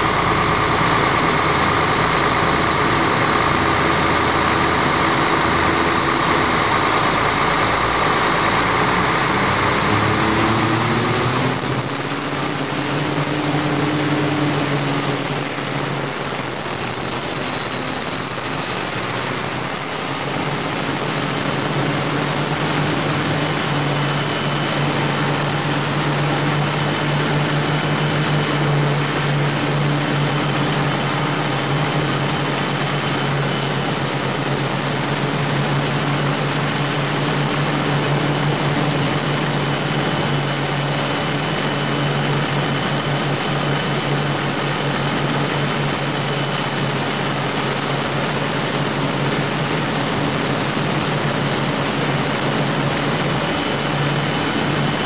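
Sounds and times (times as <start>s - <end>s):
boat engines running: 0.0s - 55.0s
rushing noise: 0.0s - 55.0s.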